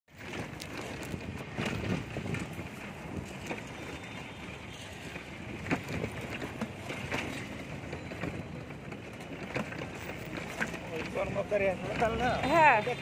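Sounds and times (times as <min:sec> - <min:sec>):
rumble of rolling wheels: 0:00.1 - 0:13.0
street traffic: 0:00.1 - 0:13.0.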